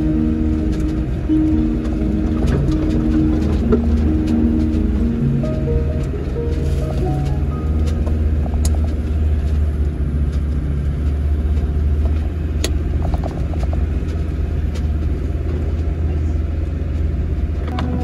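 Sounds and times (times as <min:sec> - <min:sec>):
diesel engine rumble: 0:00.0 - 0:18.0.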